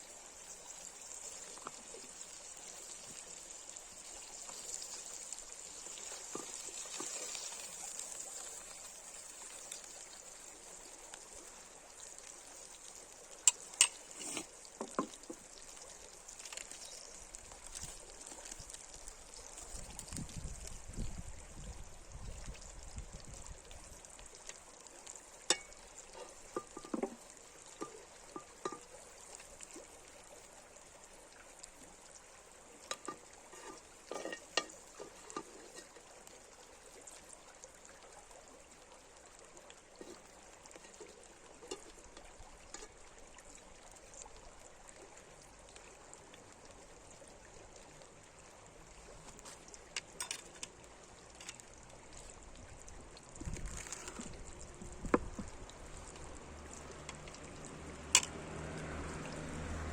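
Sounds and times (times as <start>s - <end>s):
faint trickle of running water: 0.0s - 59.9s.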